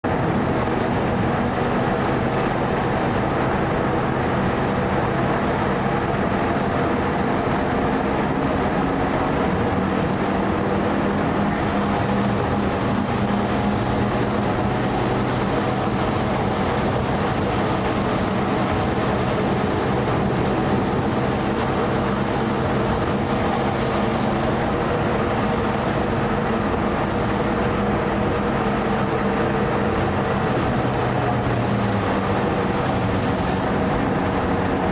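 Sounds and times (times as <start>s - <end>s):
car engine running: 0.0s - 34.9s
road and tyre noise: 0.0s - 34.9s.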